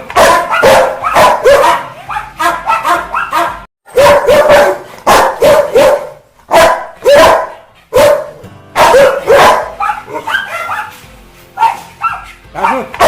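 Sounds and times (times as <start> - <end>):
dog barking angrily: 0.0 - 11.0, 11.6 - 13.0.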